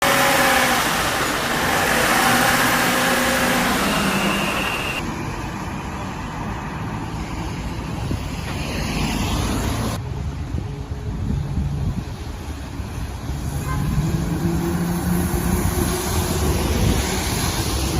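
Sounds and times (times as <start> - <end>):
rain: 0.0 - 7.4, 8.6 - 17.9
wind: 0.0 - 17.9.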